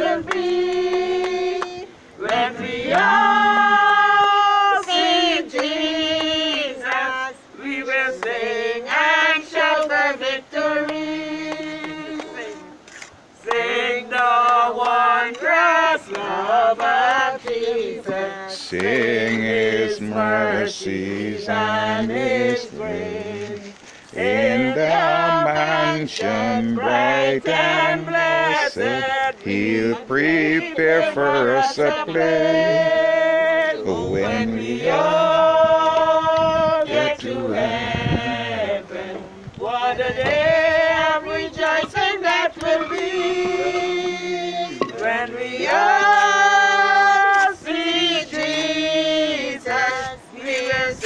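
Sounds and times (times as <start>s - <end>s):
group of voices singing: 0.0s - 51.0s.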